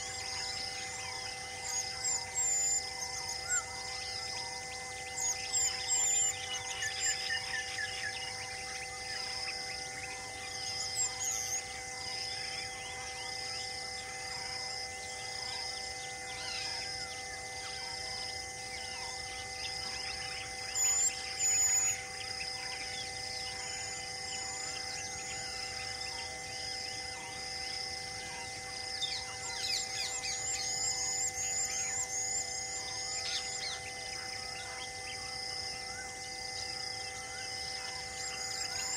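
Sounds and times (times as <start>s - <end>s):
constant hum: 0.0s - 38.9s
insects pulsing: 0.0s - 38.9s.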